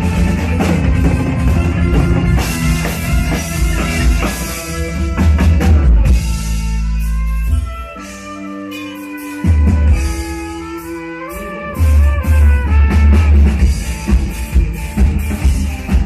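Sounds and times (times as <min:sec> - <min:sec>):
bass guitar: 0:00.0 - 0:16.0
drum kit with cymbals: 0:00.0 - 0:16.0
electric guitar: 0:00.0 - 0:16.0.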